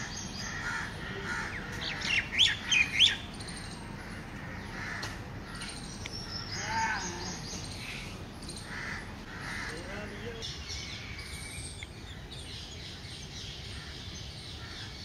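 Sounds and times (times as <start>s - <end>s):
birds calling: 0.0s - 15.0s
steady background noise: 0.0s - 15.0s.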